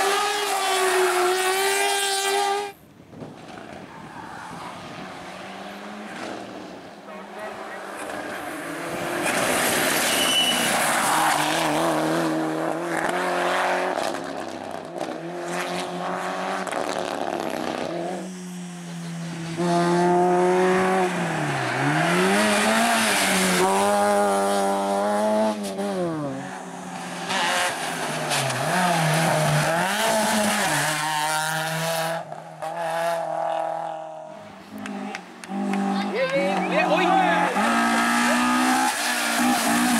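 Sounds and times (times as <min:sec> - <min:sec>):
race car engine revving past: 0:04.9 - 0:39.9.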